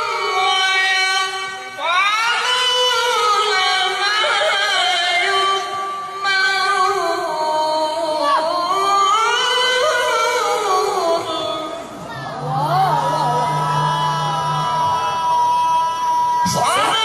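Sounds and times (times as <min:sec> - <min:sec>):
person reciting melodically: 0:00.0 - 0:17.0.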